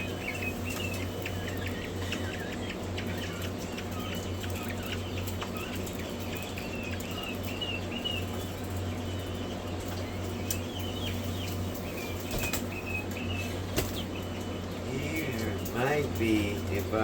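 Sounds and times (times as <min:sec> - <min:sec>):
quail chicks peeping: 0:00.0 - 0:17.0
steady low hum: 0:00.0 - 0:17.0.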